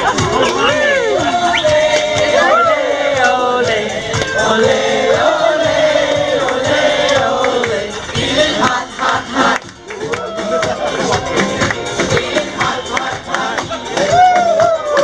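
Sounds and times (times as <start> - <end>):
loud music with singing: 0.0 - 15.0.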